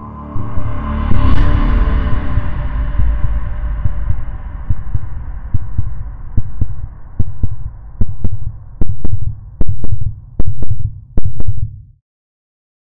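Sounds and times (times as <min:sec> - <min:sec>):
low drone: 0:00.0 - 0:11.4
deep heartbeat thumps: 0:00.4 - 0:12.0.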